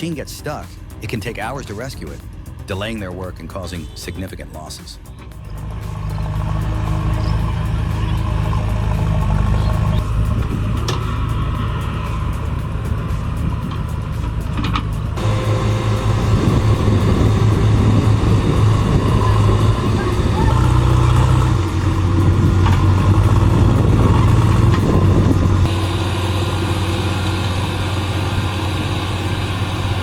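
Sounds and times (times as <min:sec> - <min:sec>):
heavy machinery engines running: 0:00.0 - 0:30.0.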